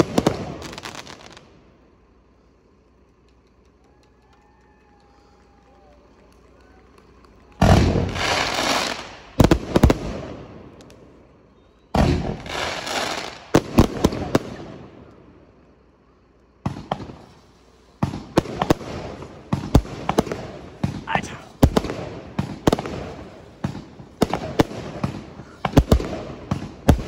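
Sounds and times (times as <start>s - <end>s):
fireworks blasts: 0.0s - 27.0s
sharp firework cracks: 0.0s - 27.0s.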